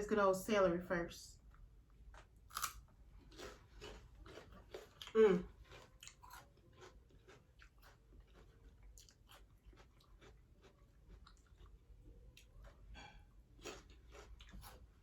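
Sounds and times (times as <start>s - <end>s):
person chewing celery: 1.4s - 15.0s.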